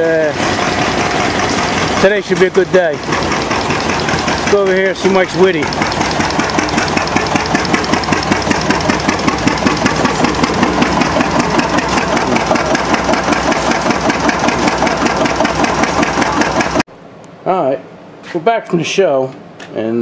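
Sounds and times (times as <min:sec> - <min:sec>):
stationary engine running: 0:00.0 - 0:16.9.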